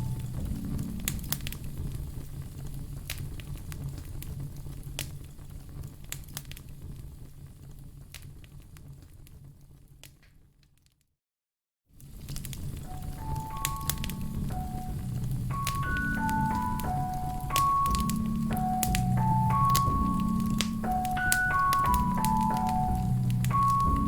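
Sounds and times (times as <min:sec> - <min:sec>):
wood fire crackling: 0:00.0 - 0:10.9, 0:12.0 - 0:24.0.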